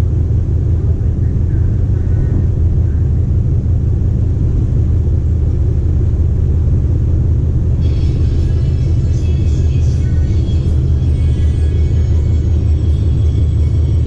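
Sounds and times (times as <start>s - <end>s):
train rumbling on board: 0.0s - 14.0s.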